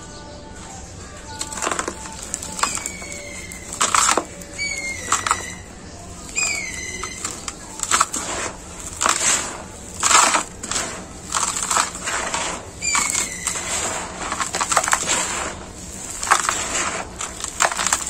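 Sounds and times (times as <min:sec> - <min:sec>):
gritty soil rustling: 0:00.7 - 0:18.0.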